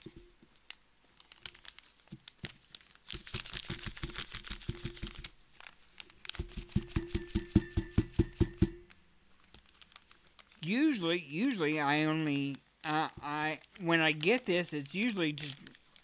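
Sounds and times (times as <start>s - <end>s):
pouch crinkling: 0.4s - 6.9s, 8.9s - 10.7s, 11.4s - 16.0s.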